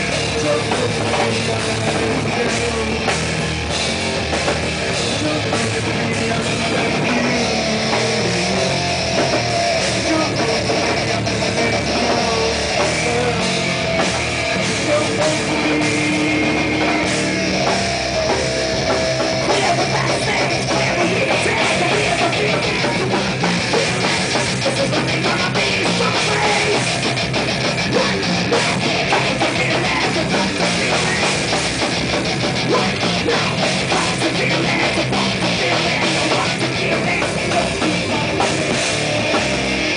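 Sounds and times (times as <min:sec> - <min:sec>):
electric guitar: 0:00.0 - 0:39.9
fast drums with cymbals: 0:00.0 - 0:39.9
heavy metal band playing: 0:00.0 - 0:39.9.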